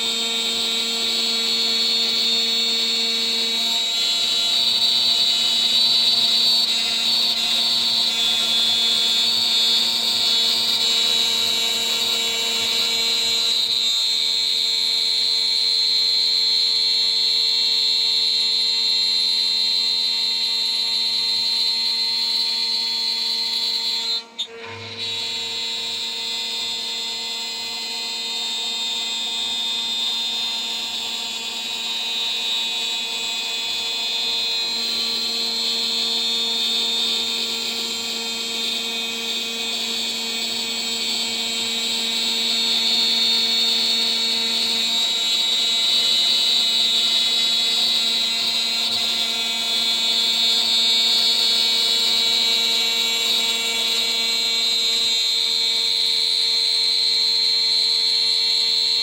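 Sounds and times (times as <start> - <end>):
cnc router spindle whine: 0.0 - 59.0.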